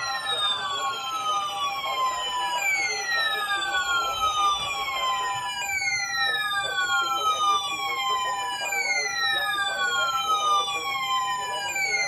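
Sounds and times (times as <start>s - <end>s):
siren-like alarm sweeps: 0.0s - 12.0s
steady held tone: 0.0s - 12.0s.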